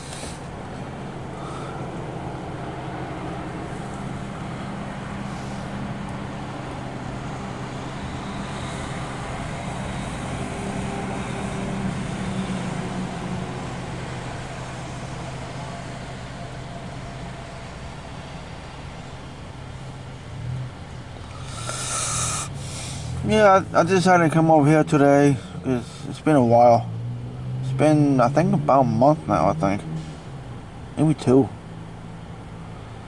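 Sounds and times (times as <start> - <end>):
engine hum: 0.0 - 33.0.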